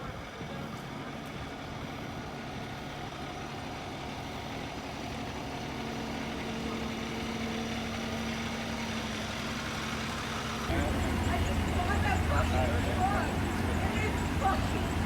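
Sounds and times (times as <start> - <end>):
street noise: 0.0 - 15.0
vehicle engine idling: 0.0 - 15.0.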